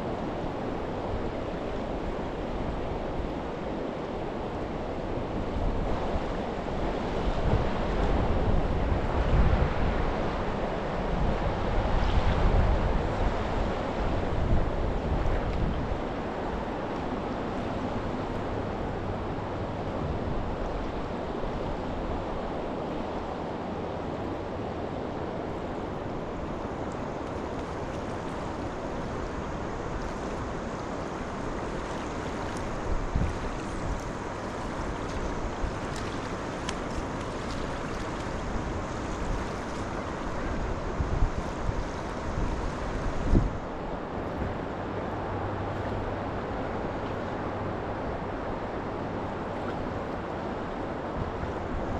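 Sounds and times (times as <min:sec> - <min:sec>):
flowing river water: 0:00.0 - 0:51.9
wind on microphone: 0:04.4 - 0:23.1, 0:25.4 - 0:51.9.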